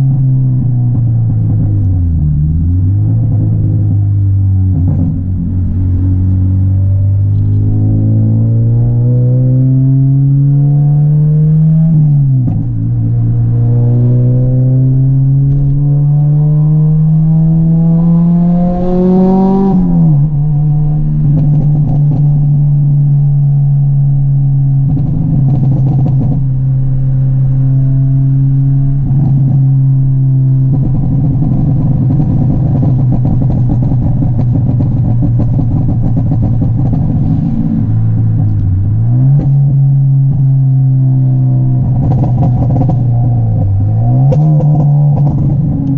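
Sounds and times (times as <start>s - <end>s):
car engine accelerating hard: 0.0s - 45.9s.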